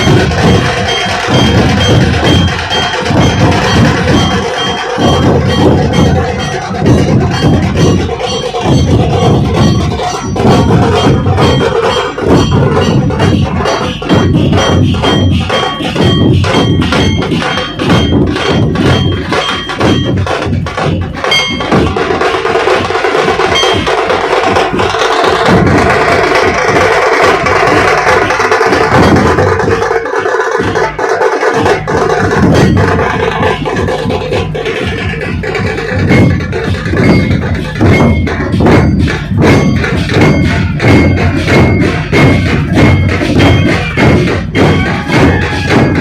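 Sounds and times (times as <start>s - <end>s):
fast barrel drumming: 0.0s - 46.0s.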